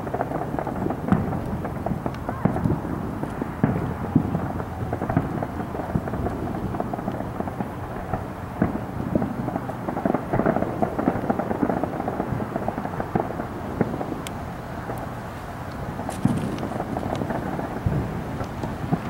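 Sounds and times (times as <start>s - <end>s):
fireworks popping and crackling: 0.0s - 19.0s.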